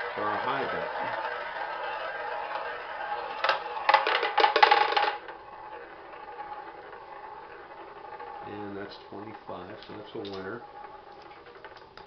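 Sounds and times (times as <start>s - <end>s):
ball clattering across dividers: 0.0s - 12.0s
ball whirring around roulette wheel: 0.0s - 12.0s.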